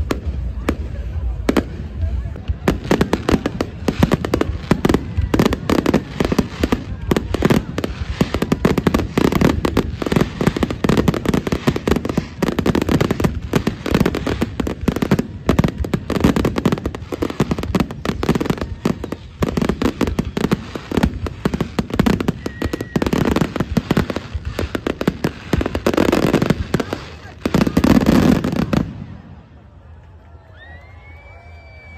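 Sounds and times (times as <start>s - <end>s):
fireworks bursting: 0.0s - 29.6s.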